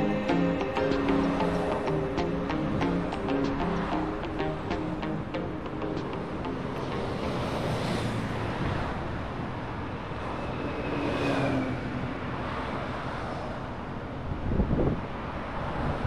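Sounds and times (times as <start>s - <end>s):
wind rush and road noise: 0.0s - 16.0s.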